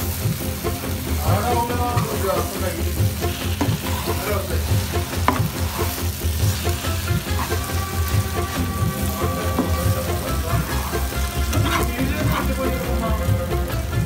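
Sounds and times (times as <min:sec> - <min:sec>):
beef sizzling in oil: 0:00.0 - 0:14.0.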